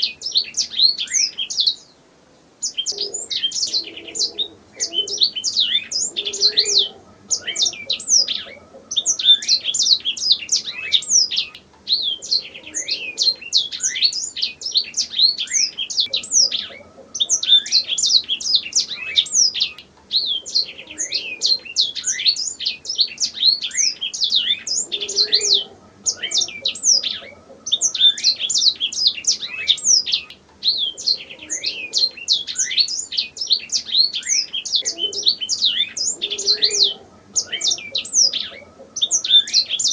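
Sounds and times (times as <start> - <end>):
canary singing: 0.0 - 2.0, 2.6 - 39.9.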